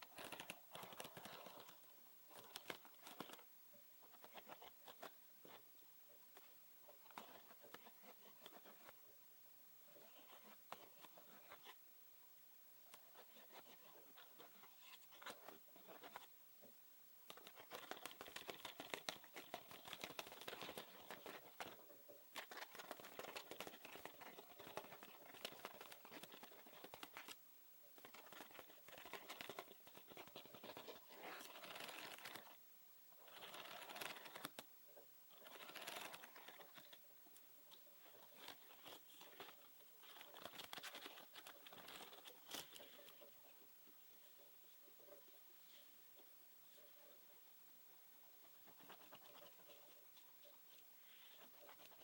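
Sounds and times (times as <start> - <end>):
soft scratching and tapping: 0.0 - 9.0, 9.9 - 11.8, 12.9 - 32.6, 33.2 - 34.7, 35.3 - 47.2, 48.4 - 52.0.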